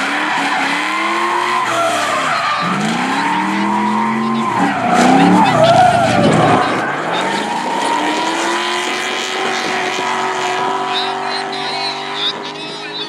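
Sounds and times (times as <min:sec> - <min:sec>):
car engine revving: 0:00.0 - 0:13.0
tyres squealing: 0:00.0 - 0:13.0.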